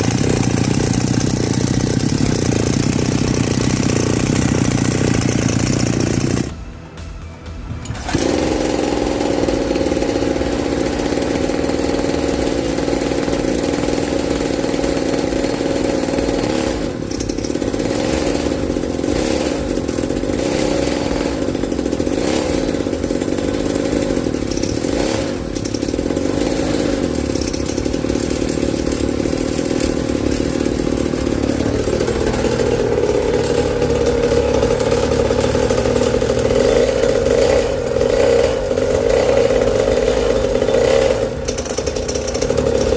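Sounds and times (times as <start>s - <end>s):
small petrol engine running: 0.0s - 6.8s, 7.8s - 42.9s.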